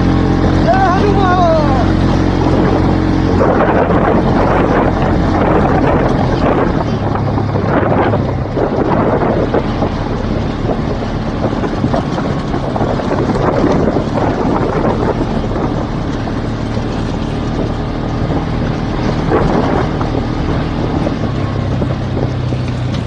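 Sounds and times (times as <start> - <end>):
vehicle engine running: 0.0 - 23.0
wind rushing on microphone: 0.0 - 23.0.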